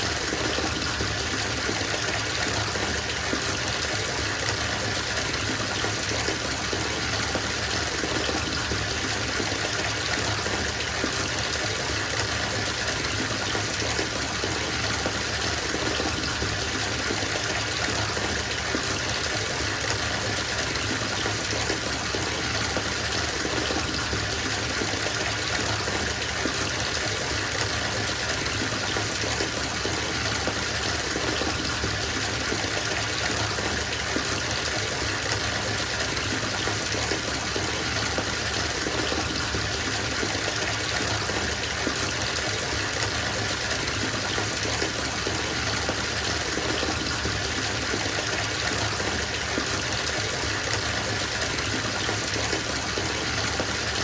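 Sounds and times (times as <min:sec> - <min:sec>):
water pouring into bathtub: 0:00.0 - 0:54.0.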